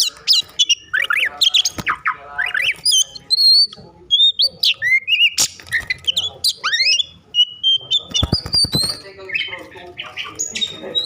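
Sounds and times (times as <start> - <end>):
songbird singing loud whistles: 0.6 - 9.5.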